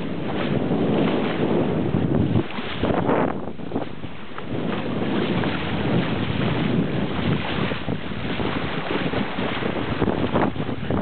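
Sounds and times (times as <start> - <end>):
water splashing along hull: 0.0 - 11.0
wind buffeting microphone: 0.0 - 11.0.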